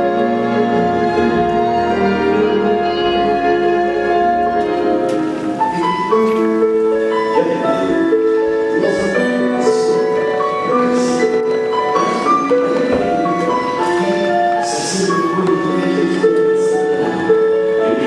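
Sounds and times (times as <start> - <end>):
slow instrumental music: 0.0 - 18.0.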